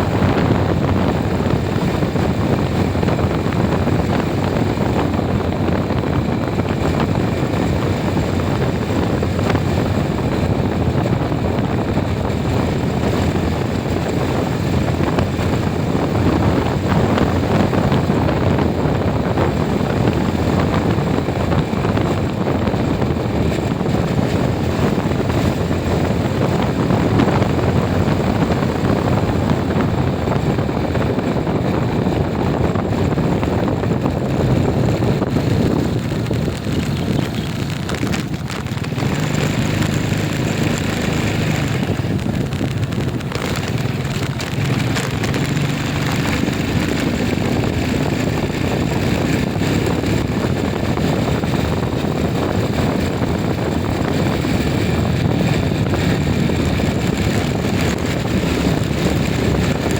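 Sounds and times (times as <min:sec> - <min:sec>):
vehicle rumble: 0:00.0 - 0:59.9
wind noise on microphone: 0:00.0 - 0:59.9.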